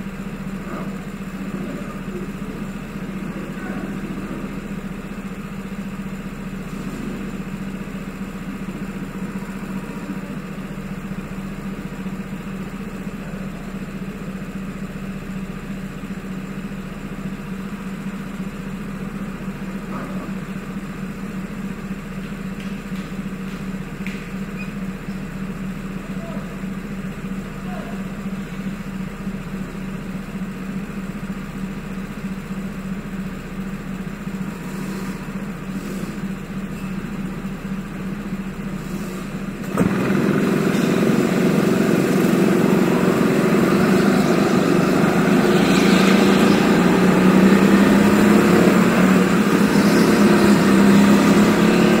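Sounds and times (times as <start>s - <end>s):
go-kart engine idling: 0.0s - 52.0s.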